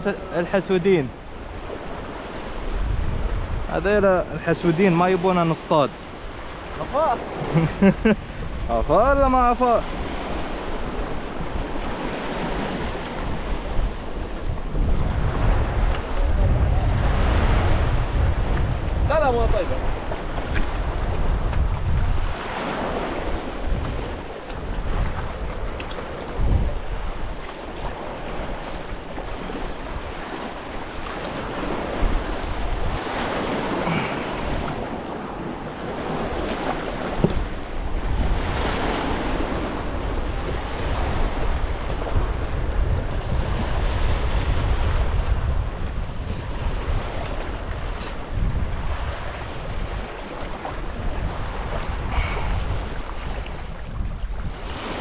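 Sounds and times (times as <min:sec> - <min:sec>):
water washing around boat: 0:00.0 - 0:55.0
wind buffeting microphone: 0:00.0 - 0:55.0.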